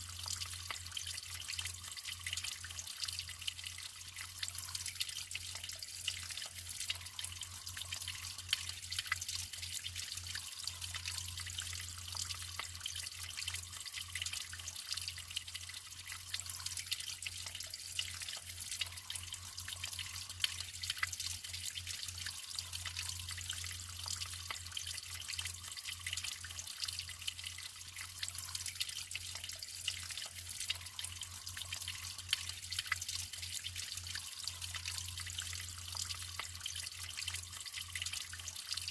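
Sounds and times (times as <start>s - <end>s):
water drips: 0.0s - 38.9s
water trickling and splashing: 0.0s - 38.9s.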